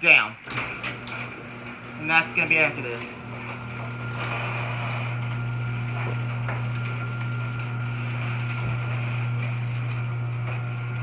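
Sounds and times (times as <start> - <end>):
garage door opener motor hum: 0.4 - 11.0.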